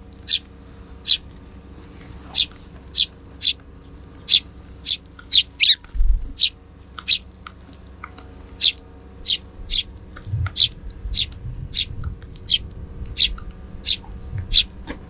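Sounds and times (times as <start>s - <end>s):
sparrows chirping: 0.0s - 14.8s
low rumble: 0.6s - 6.6s, 7.8s - 15.0s.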